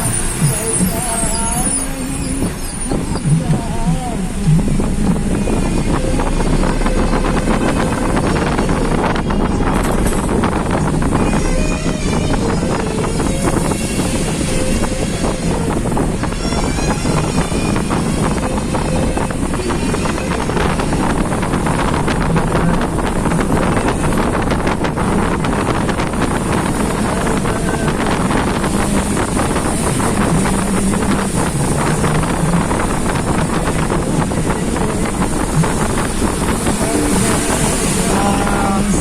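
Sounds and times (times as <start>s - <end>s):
vehicle engine running: 0.0s - 39.0s
wind rushing over microphone: 0.0s - 39.0s.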